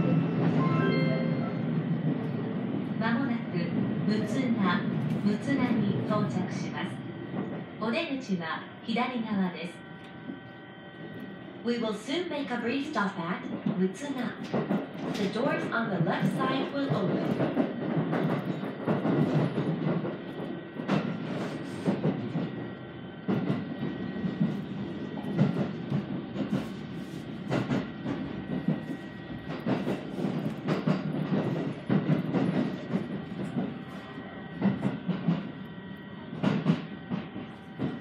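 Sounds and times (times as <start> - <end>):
train running noise: 0.0 - 38.0.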